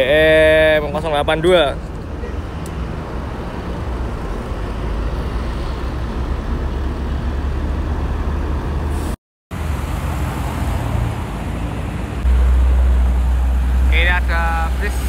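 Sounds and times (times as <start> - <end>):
buses and cars passing: 0.0 - 15.0.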